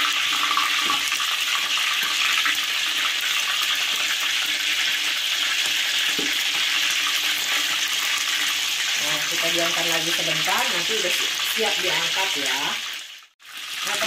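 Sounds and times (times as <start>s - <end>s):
shrimp deep-frying in oil: 0.0s - 14.0s.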